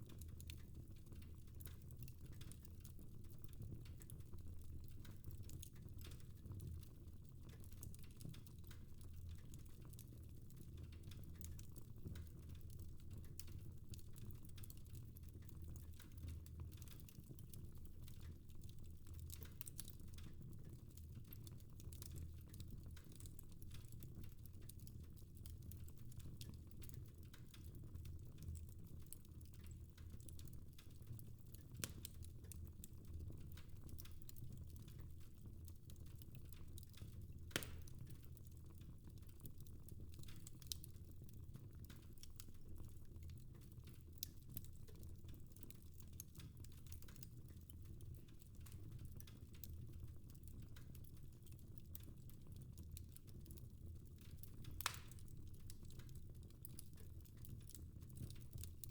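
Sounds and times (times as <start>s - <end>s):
fire crackling in a fireplace: 0.0s - 58.9s.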